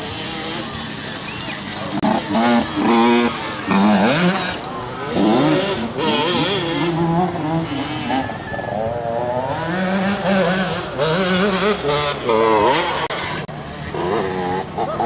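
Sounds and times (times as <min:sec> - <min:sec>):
motocross engines revving: 0:00.0 - 0:15.0.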